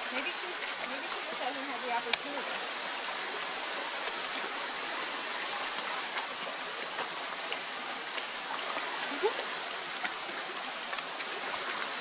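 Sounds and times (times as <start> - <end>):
creek running over stones: 0.0 - 12.0.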